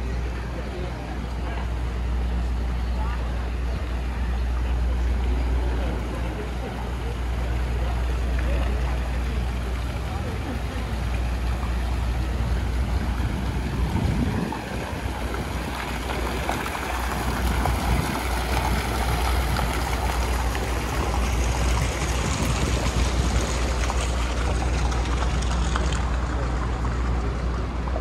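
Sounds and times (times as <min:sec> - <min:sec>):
low rumble: 0:00.0 - 0:28.0
traffic rushing: 0:00.0 - 0:28.0.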